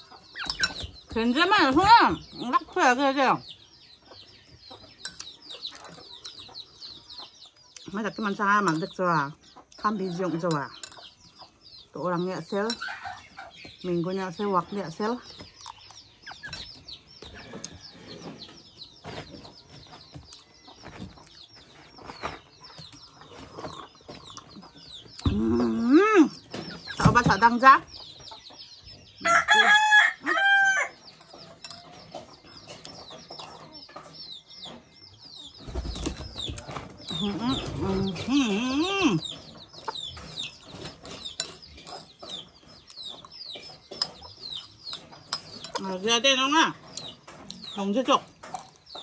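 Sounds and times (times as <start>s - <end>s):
birds chirping: 0.0s - 49.0s
chickens clucking: 0.0s - 49.0s.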